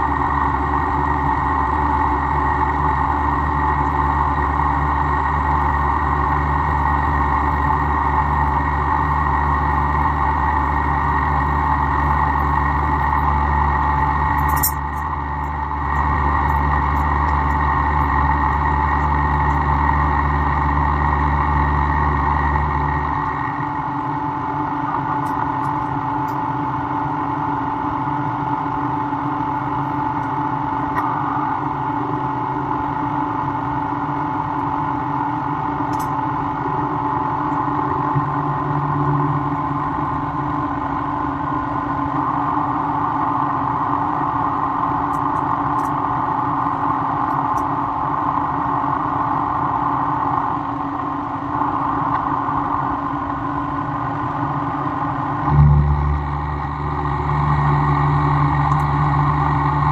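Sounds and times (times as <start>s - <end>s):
deep hum: 0.0s - 48.2s, 51.4s - 59.9s.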